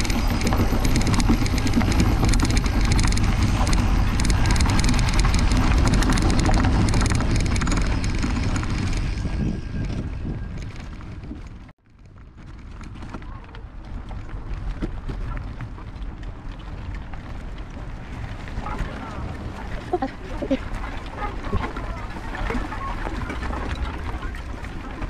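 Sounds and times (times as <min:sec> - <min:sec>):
bike frame and tyre rattle: 0:00.0 - 0:25.0
wind buffeting microphone: 0:00.0 - 0:25.0.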